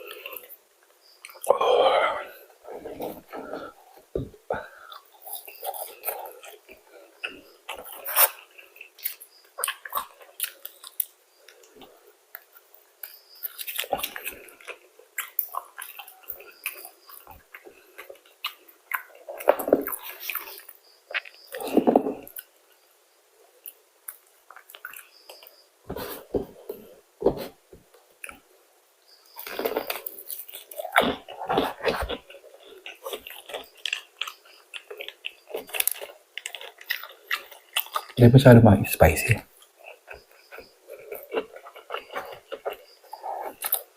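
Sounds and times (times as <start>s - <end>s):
chewing crispy food: 0.0s - 22.9s, 23.6s - 27.0s, 29.3s - 43.9s.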